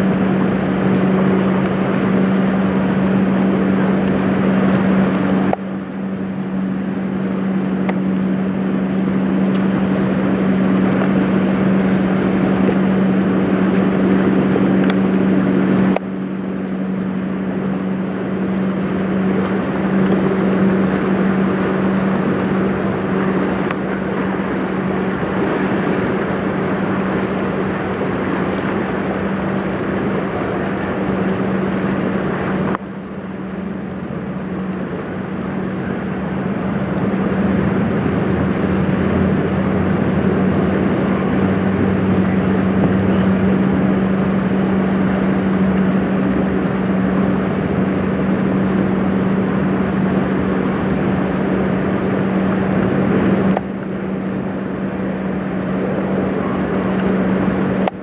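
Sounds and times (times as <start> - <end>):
rushing water noise: 0.0 - 58.0
ship engine low hum: 0.0 - 58.0.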